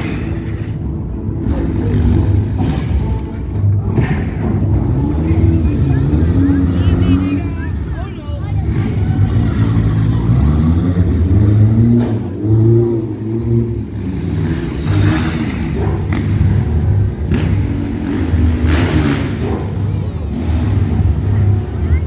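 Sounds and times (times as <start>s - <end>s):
car engine revving: 0.0s - 22.0s
dirt bike engine revving: 1.3s - 22.0s.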